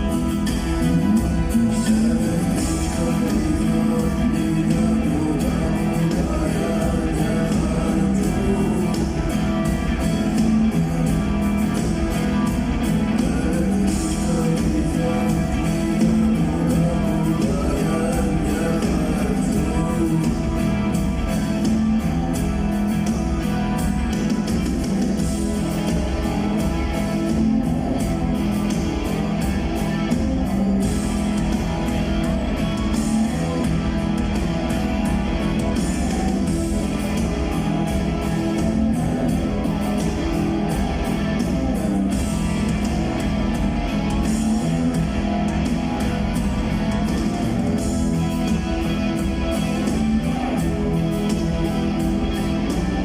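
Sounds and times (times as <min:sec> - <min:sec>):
drum kit: 0:00.0 - 0:53.0
electric guitars: 0:00.0 - 0:53.0.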